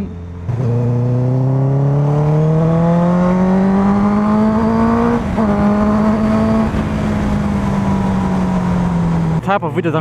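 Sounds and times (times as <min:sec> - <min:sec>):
motorcycle engine accelerating: 0:00.0 - 0:09.5.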